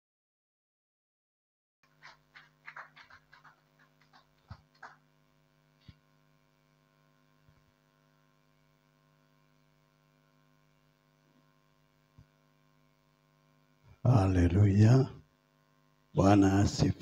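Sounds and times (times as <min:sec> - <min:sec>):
faint electrical hum: 0:01.8 - 0:17.0.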